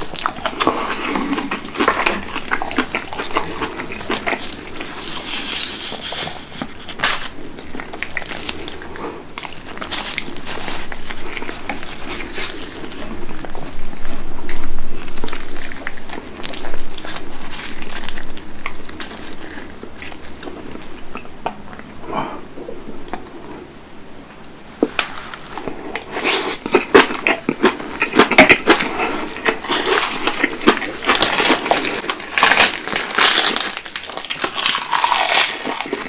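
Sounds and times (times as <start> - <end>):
crunching and wet chewing: 0.0 - 22.3, 23.0 - 23.6, 24.9 - 36.0.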